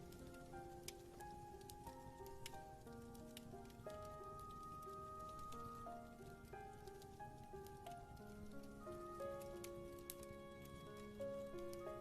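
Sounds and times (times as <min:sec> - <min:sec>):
fire crackling: 0:00.0 - 0:12.0
rain pattering: 0:00.0 - 0:12.0
soft piano notes: 0:00.0 - 0:12.0.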